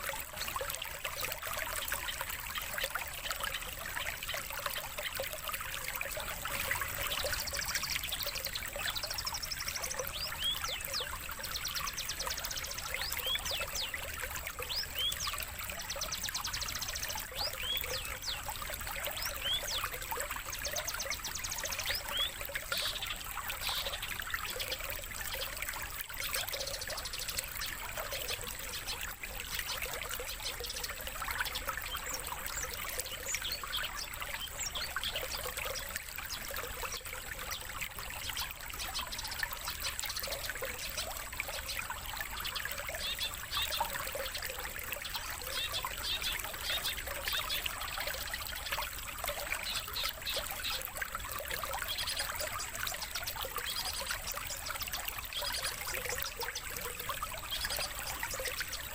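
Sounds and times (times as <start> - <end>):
trickle of running water: 0.0 - 58.9
songbirds chirping and trilling: 1.6 - 58.9.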